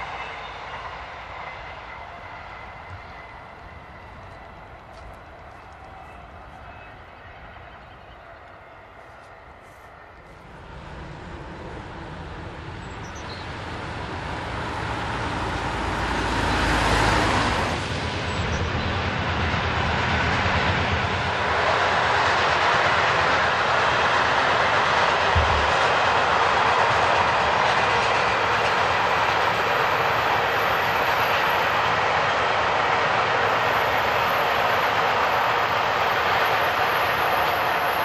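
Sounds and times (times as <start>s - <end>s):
freight train rolling past: 0.0s - 38.0s.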